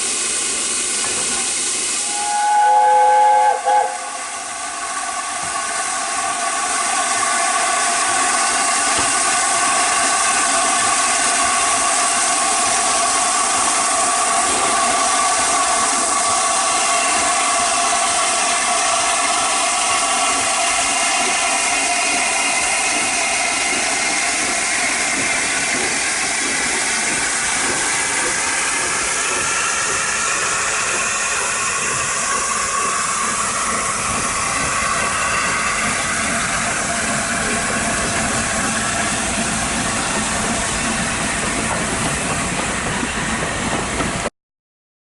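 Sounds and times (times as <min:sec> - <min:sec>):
locomotive steam hissing: 0:00.0 - 0:44.3.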